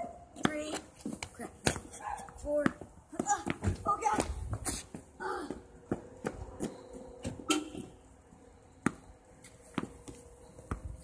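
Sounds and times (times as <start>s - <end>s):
tennis ball bouncing on concrete: 0.0s - 7.9s, 8.8s - 11.0s.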